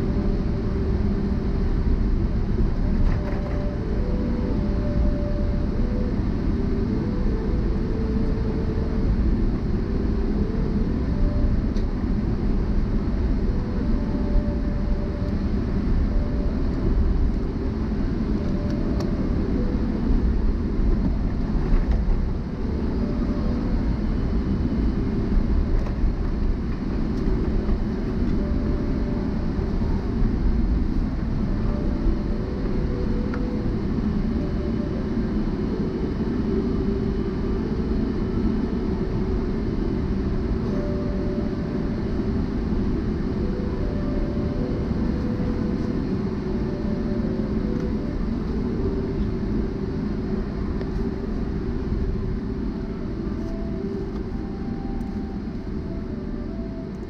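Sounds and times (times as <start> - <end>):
jet engines low rumble: 0.0 - 57.0.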